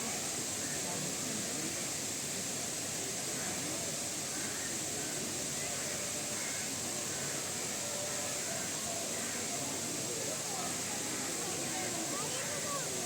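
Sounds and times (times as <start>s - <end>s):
murmur of distant voices: 0.0s - 13.0s
steady hiss: 0.0s - 13.0s.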